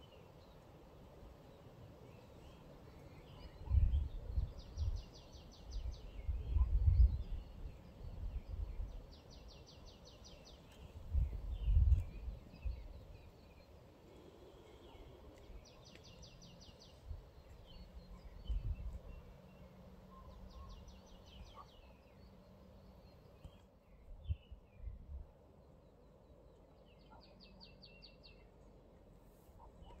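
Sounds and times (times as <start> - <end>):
birds chirping: 0.0 - 28.8.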